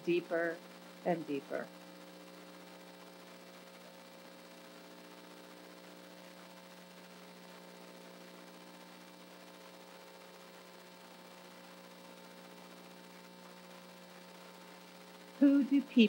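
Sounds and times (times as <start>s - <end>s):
faint mains hum with hiss: 0.0s - 16.0s.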